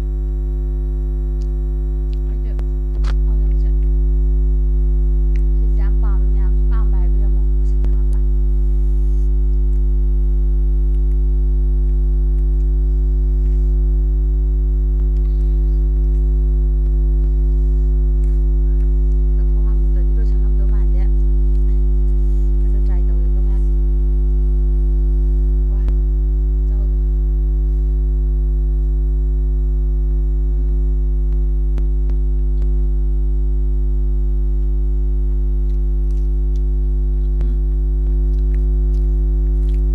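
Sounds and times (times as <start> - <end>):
loud electronic hum: 0.0 - 39.9.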